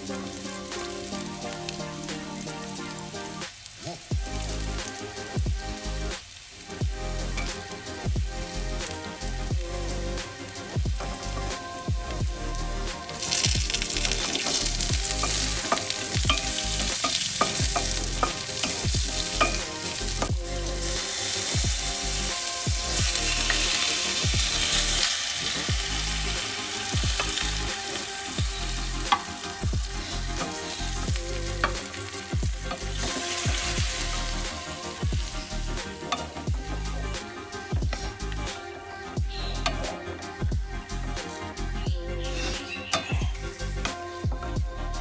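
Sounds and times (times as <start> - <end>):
spices sizzling in hot oil: 0.0 - 45.0.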